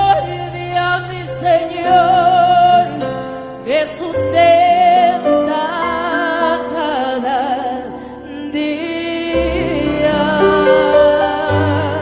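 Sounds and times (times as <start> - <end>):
slow worship music: 0.0 - 12.0.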